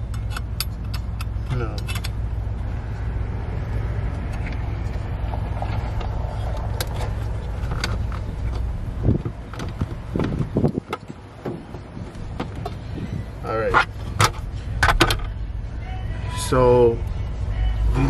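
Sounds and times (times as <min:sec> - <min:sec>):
low rumble: 0:00.8 - 0:15.9.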